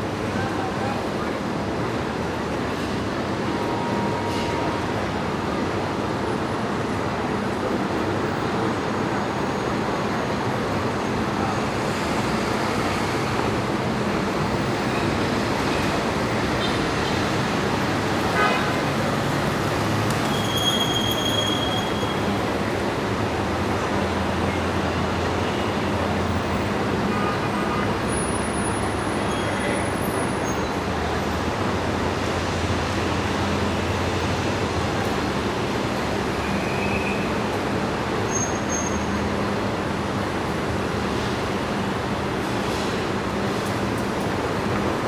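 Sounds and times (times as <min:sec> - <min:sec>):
dense city traffic: 0:00.0 - 0:45.0.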